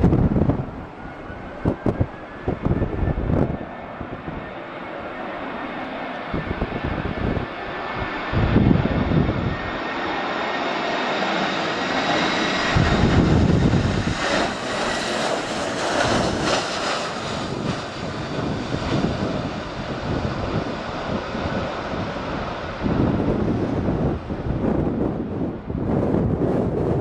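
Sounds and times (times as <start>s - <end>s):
jet engines roaring: 0.0s - 27.0s
wind buffeting microphone: 0.0s - 27.0s.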